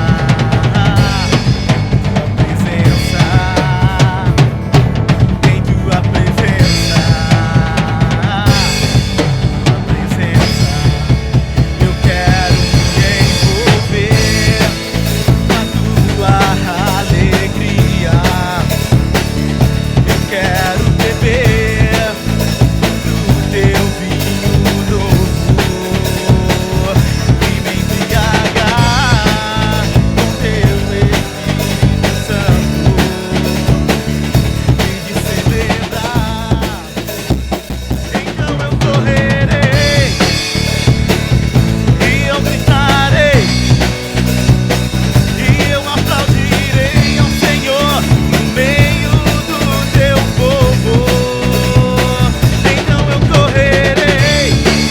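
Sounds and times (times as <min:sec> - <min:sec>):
acoustic guitar: 0:00.0 - 0:54.9
drum kit beat: 0:00.0 - 0:54.9
person singing: 0:00.0 - 0:54.9.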